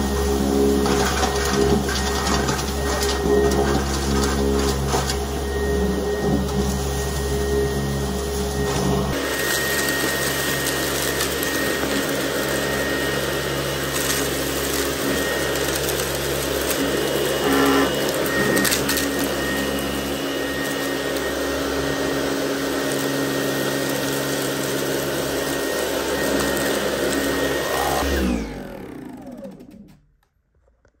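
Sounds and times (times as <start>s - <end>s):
vacuum cleaner motor whine: 0.0s - 30.3s
vacuum winding down: 0.0s - 30.4s.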